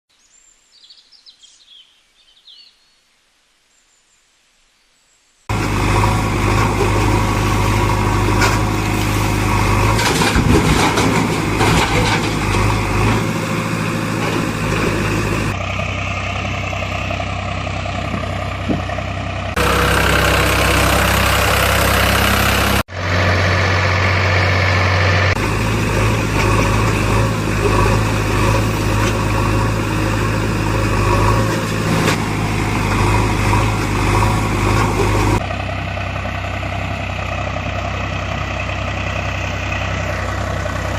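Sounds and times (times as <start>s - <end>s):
heavy machinery engines running: 5.5s - 40.9s.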